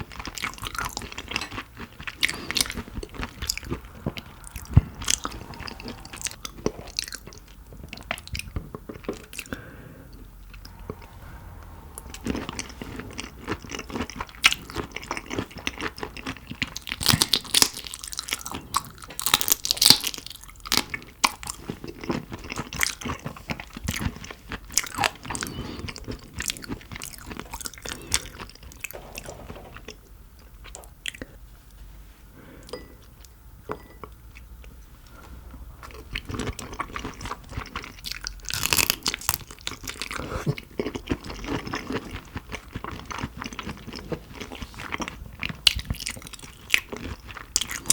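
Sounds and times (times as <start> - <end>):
chewing and crunching shrimp: 0.0 - 10.8, 12.6 - 31.4, 34.4 - 47.9.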